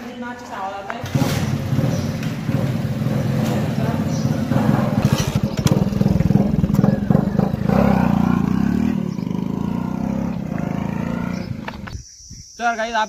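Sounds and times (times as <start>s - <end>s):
motorcycle engine riding off: 1.0s - 12.0s.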